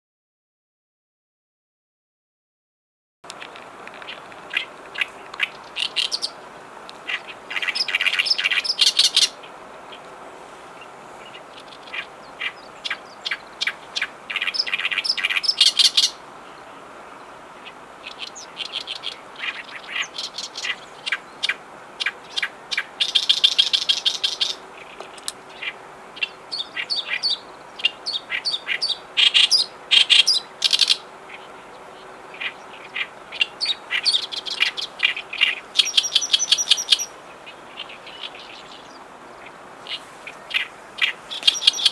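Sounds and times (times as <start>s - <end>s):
warbler singing harsh chattering song: 3.3s - 10.1s, 10.7s - 41.9s.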